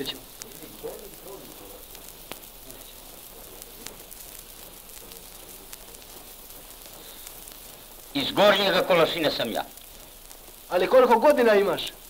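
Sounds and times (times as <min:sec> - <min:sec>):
record clicks and crackles: 0:00.0 - 0:12.0
record hiss: 0:00.0 - 0:12.0.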